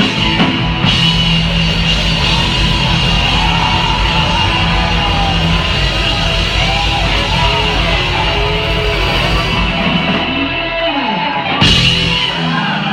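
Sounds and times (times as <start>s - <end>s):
distorted electric guitar: 0.0s - 12.9s
live rock band: 0.0s - 12.9s.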